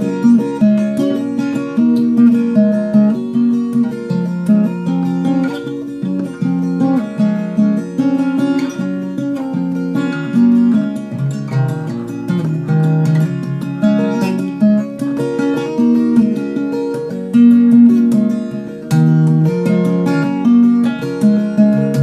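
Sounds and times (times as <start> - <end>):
fingerpicked acoustic guitar: 0.0 - 22.0.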